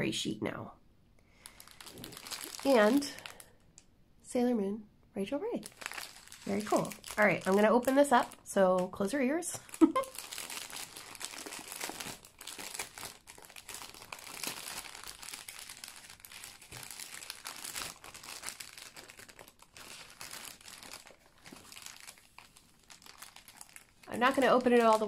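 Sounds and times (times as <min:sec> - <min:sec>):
plastic packaging crinkling: 0:01.4 - 0:03.7, 0:05.6 - 0:25.0.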